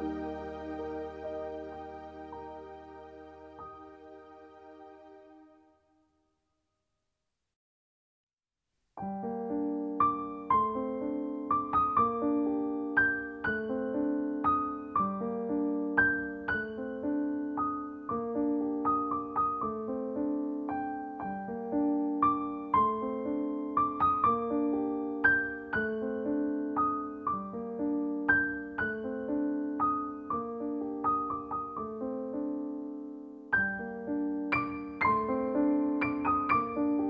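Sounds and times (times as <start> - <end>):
gentle piano music: 0.0 - 5.7, 9.0 - 37.0.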